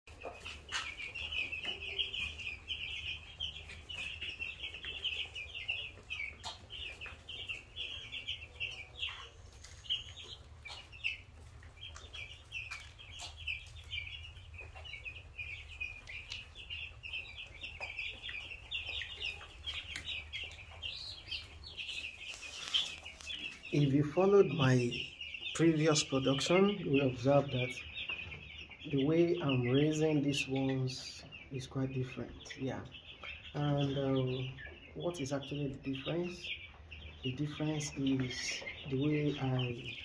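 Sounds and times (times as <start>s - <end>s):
chicks peeping: 0.1s - 40.0s.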